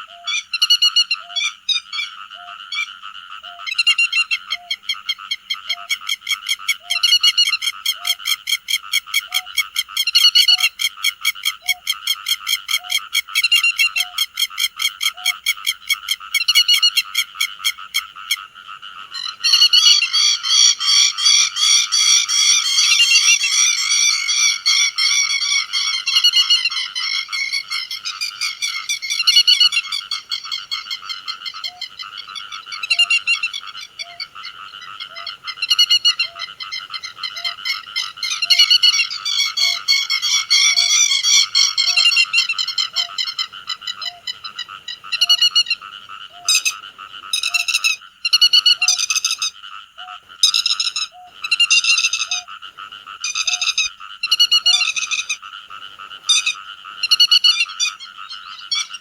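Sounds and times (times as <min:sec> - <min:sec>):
lapwings chattering calls: 0:00.0 - 0:15.6, 0:19.1 - 0:52.5, 0:53.2 - 0:59.0
background bird chorus: 0:00.0 - 0:59.0.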